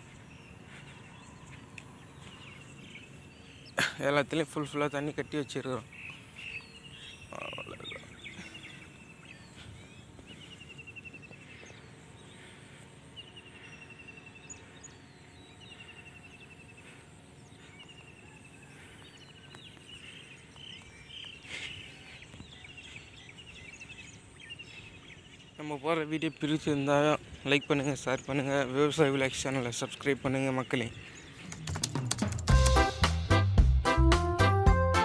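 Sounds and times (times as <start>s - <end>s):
bird chirps: 0.0s - 32.1s
outdoor background: 0.0s - 35.0s.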